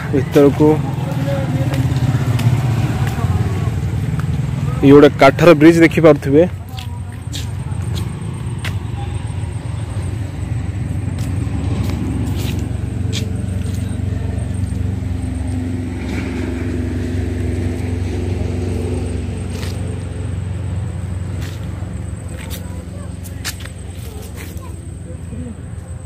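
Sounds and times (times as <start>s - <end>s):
traffic engine rumble: 0.0s - 26.0s
vehicle passing: 0.0s - 26.0s.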